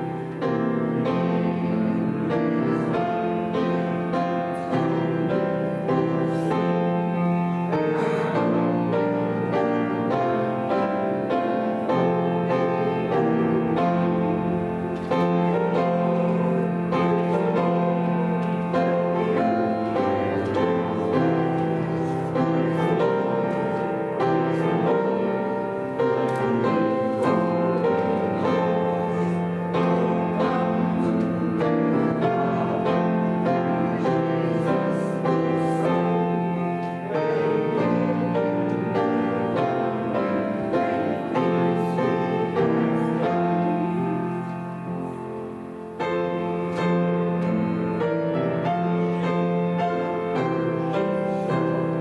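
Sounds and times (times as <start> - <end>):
piano playing hymn chords: 0.0 - 52.0.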